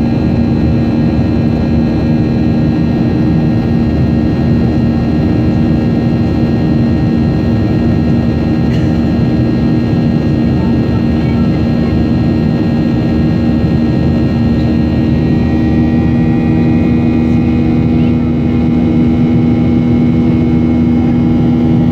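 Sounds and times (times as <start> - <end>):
jet engines and rushing air: 0.0 - 21.9
steady low hum: 0.0 - 21.9.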